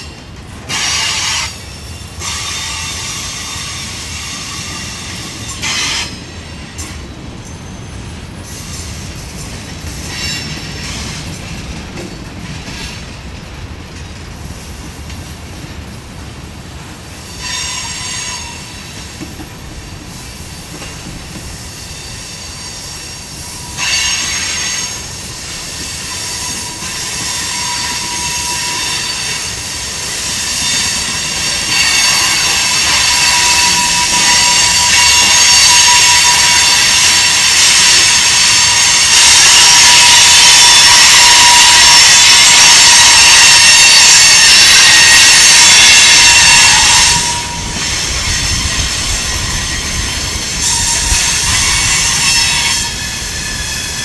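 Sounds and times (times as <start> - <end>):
train wheels squealing on rails: 0.0 - 54.0.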